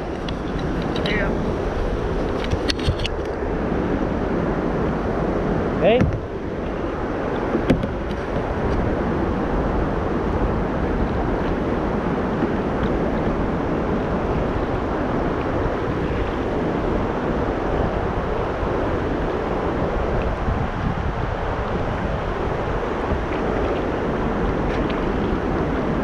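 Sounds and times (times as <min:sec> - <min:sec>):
river water moving: 0:00.0 - 0:26.0
wind on microphone: 0:00.0 - 0:26.0.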